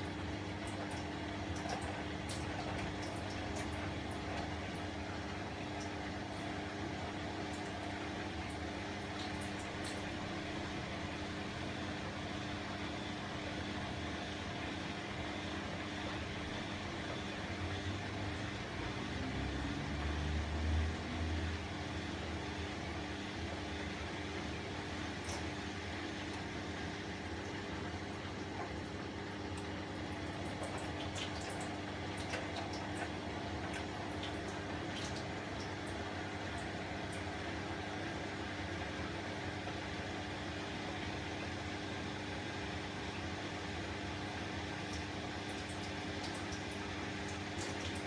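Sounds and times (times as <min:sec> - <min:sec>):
washing machine humming: 0:00.0 - 0:48.0.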